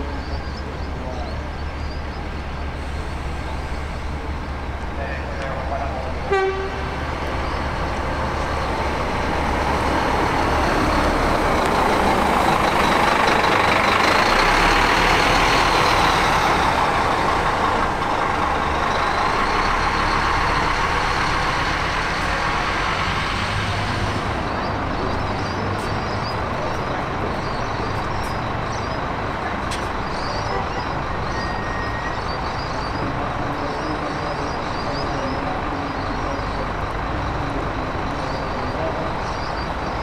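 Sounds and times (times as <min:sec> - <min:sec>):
bus engine running: 0:00.0 - 0:40.0.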